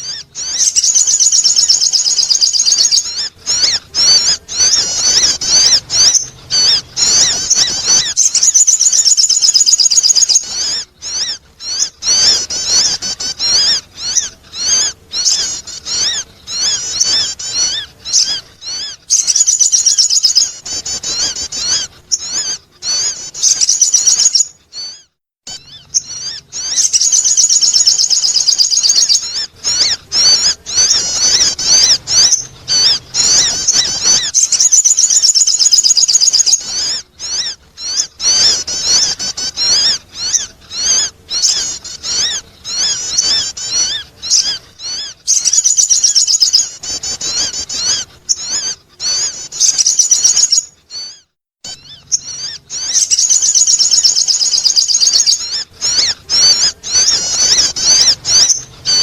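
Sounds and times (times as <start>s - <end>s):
bird warbling chatter: 0.0s - 59.0s.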